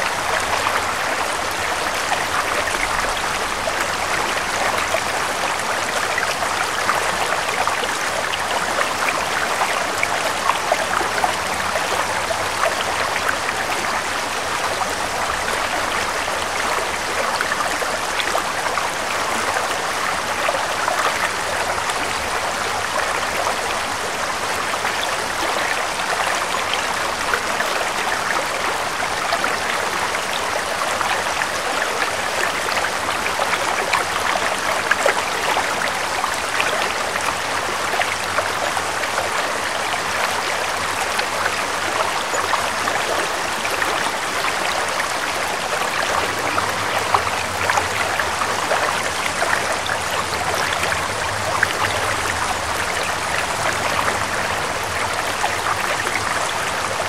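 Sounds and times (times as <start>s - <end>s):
stream water rushing and gurgling: 0.0s - 57.0s.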